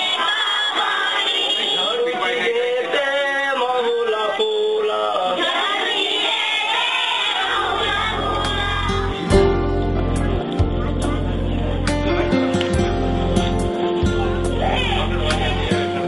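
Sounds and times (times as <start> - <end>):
voices singing together: 0.0 - 16.0.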